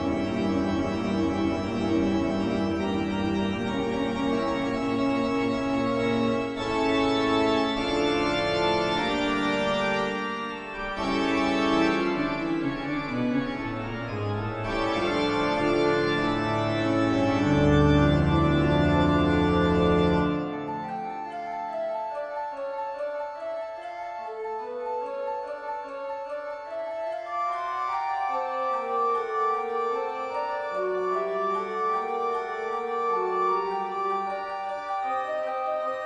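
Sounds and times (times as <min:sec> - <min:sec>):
organ-like keyboard chords: 0:00.0 - 0:36.0.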